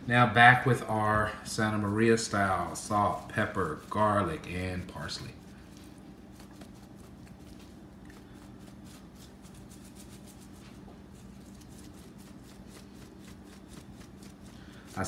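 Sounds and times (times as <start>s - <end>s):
seasoning shaker rattling: 2.2s - 15.0s.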